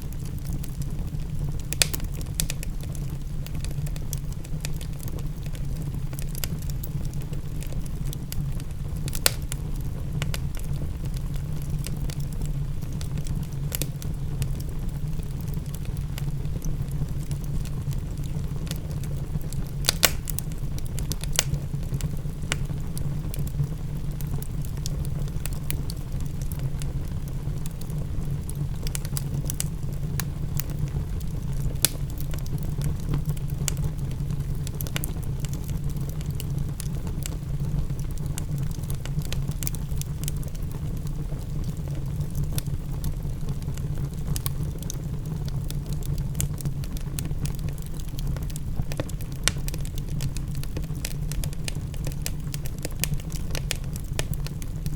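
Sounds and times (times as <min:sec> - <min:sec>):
fire popping: 0:00.0 - 0:54.9
fireplace crackling: 0:00.2 - 0:54.9.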